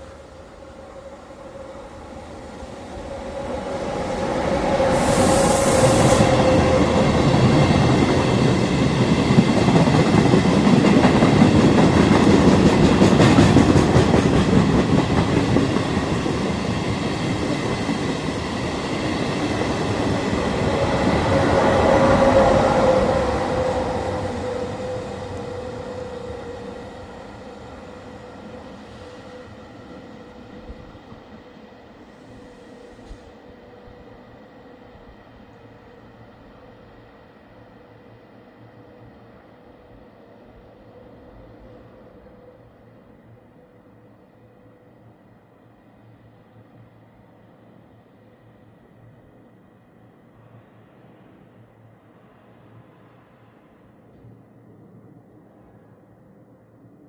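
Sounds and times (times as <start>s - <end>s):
electric locomotive whine: 0.0s - 57.0s.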